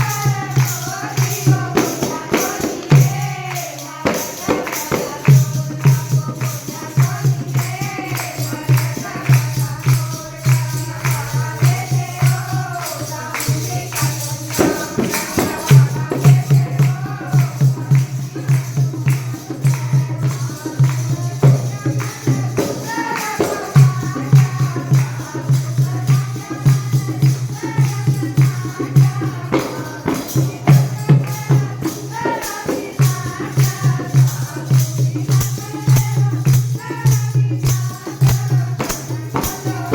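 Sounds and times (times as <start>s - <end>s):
fast steady drum beat: 0.0s - 39.9s
tambourine jingling: 0.0s - 39.9s.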